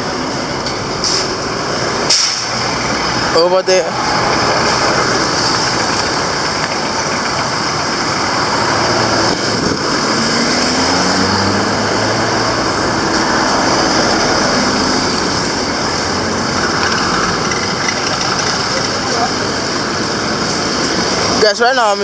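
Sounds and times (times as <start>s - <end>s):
engine pitch sliding: 0.0s - 21.4s
motor traffic: 0.0s - 22.0s.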